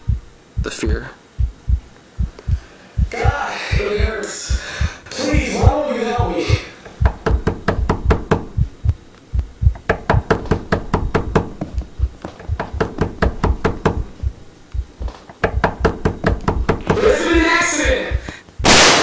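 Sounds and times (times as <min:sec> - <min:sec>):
rapid heavy knocking on door: 0:01.4 - 0:17.6.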